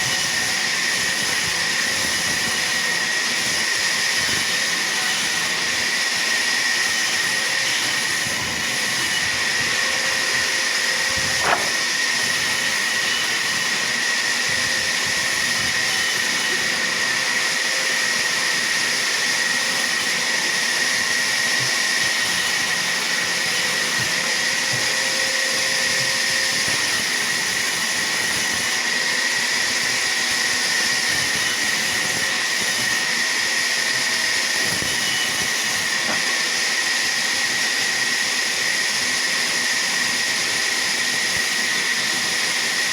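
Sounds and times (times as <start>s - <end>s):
sawmill saw whining: 0.0s - 42.9s.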